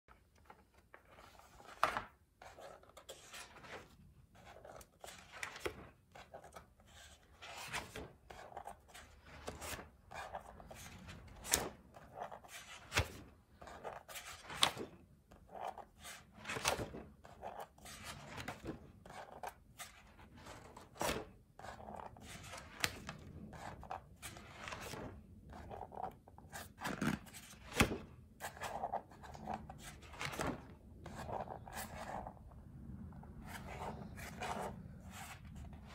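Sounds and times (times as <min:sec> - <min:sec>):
paper pages turning: 0:00.2 - 0:15.0, 0:15.6 - 0:32.4, 0:33.3 - 0:35.9.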